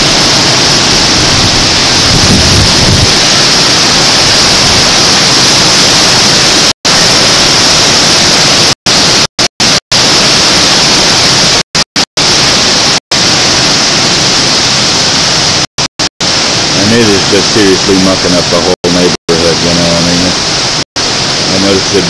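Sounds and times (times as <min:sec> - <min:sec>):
hurricane wind gust: 0:00.0 - 0:18.3
driving rain: 0:00.0 - 0:22.0.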